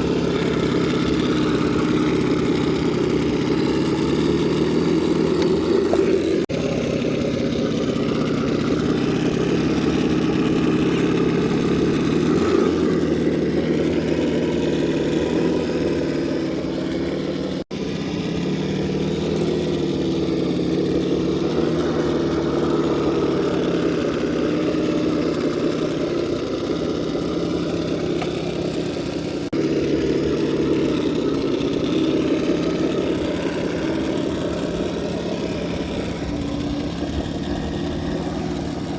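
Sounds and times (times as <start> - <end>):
rc car motor whining: 0.0 - 38.9.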